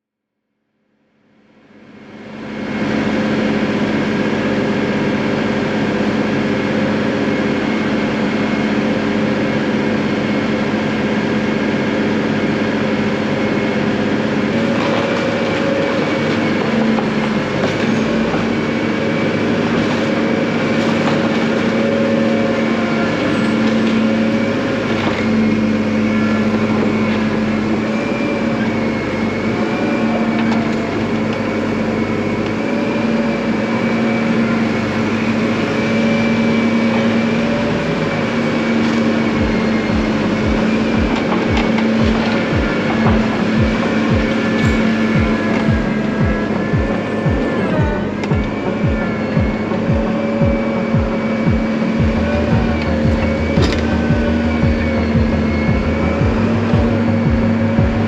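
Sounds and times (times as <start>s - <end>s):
snow-clearing machine engine running: 0.8s - 58.0s.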